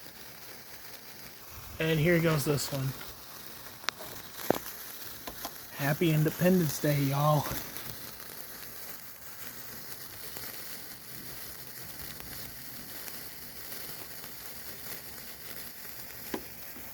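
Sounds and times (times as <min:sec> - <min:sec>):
sparklers sizzling and crackling: 0:00.0 - 0:16.9.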